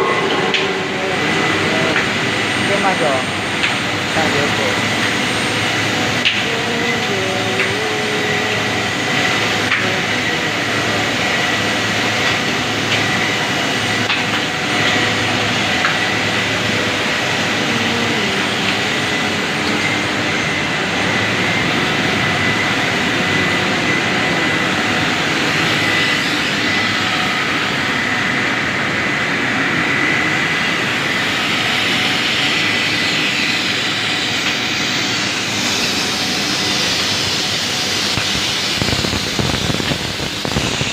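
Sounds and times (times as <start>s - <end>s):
high machine whine: 0.0s - 40.9s
plastic-making machine running: 0.0s - 40.9s.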